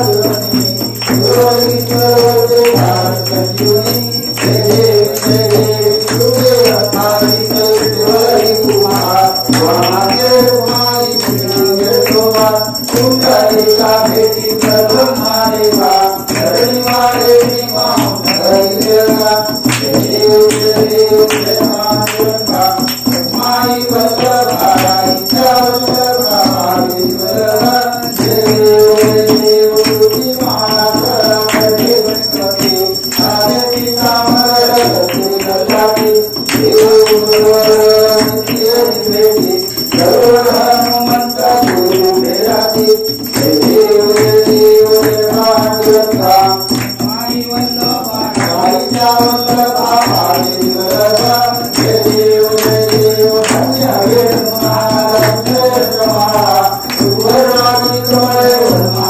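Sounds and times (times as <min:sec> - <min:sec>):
jingling percussion: 0:00.0 - 0:59.0
man singing into a microphone: 0:00.0 - 0:59.0.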